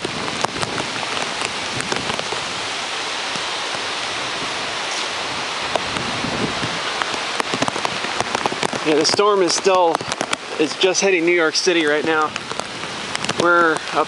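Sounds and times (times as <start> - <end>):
heavy rain pouring: 0.0 - 14.0
raindrops hitting plastic bag: 0.0 - 14.0.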